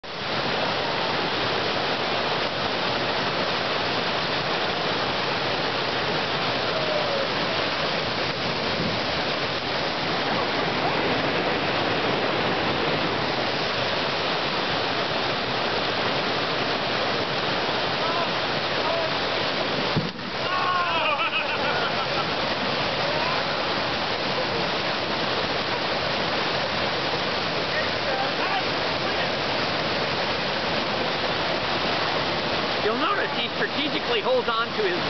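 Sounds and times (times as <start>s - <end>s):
whitewater rapids roaring: 0.0s - 35.0s.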